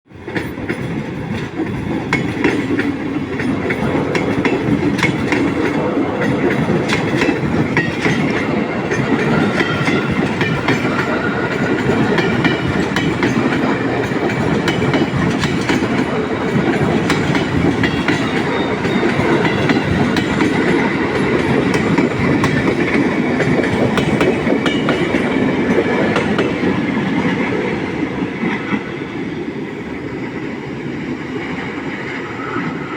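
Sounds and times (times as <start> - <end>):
train rumbling along track: 0.1 - 32.9
wheels clacking over rail joints: 0.2 - 28.9.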